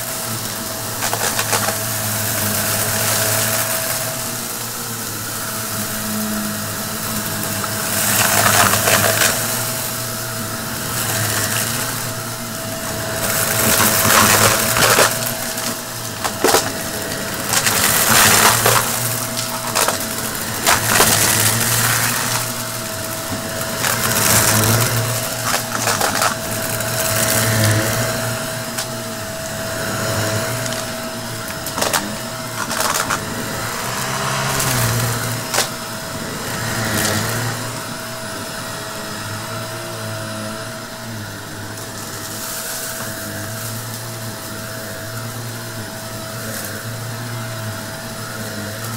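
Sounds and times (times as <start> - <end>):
debris crunching in vacuum: 0.0 - 48.9
vacuum cleaner whining: 0.0 - 48.9.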